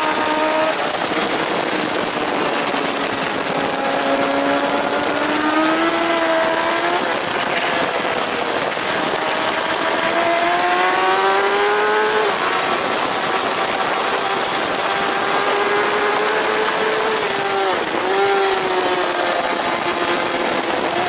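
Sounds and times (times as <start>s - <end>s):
superbike engine at full throttle: 0.0s - 21.0s
wind rush on microphone: 0.0s - 21.0s.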